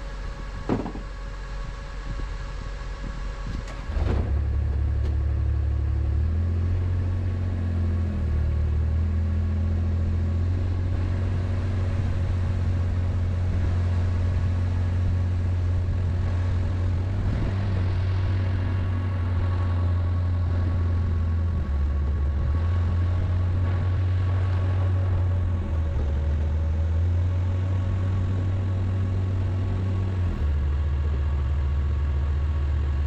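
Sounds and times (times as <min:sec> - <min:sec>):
bucket loader engine droning: 0:00.0 - 0:33.0.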